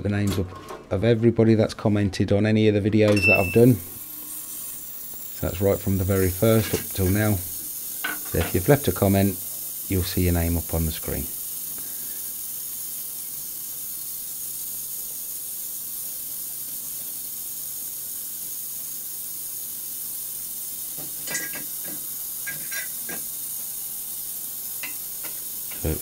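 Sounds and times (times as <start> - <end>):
ultrasonic cleaner hiss: 3.2 - 26.0.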